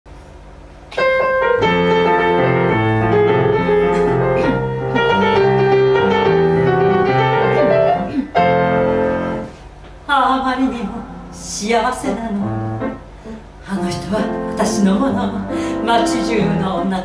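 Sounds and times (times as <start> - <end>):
grand piano playing: 0.9 - 9.8, 10.5 - 17.0.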